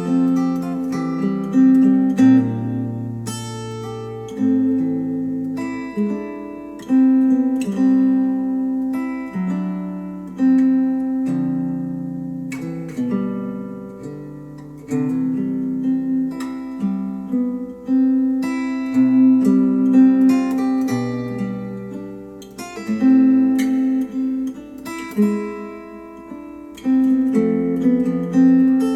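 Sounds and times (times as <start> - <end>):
acoustic guitar chords: 0.0 - 28.9.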